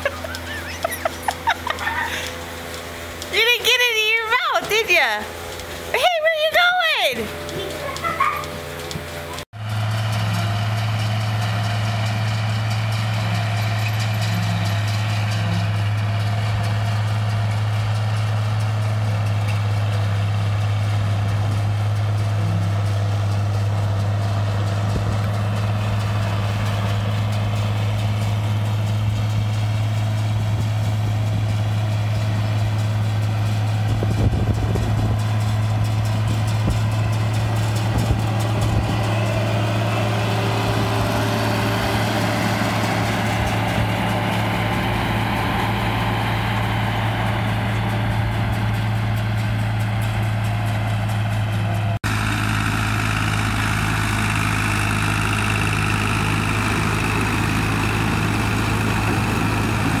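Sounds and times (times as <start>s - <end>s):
forage chopper chopping hay: 0.0s - 60.0s
tractor diesel engine running: 0.0s - 60.0s.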